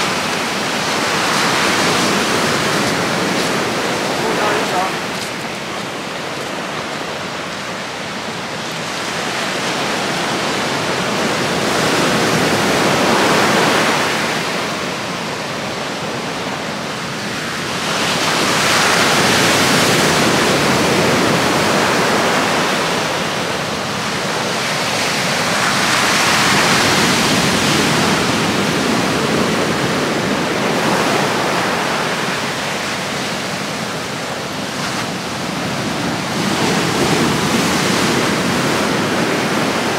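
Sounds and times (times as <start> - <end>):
heavy surf breaking on shore: 0.0 - 39.9.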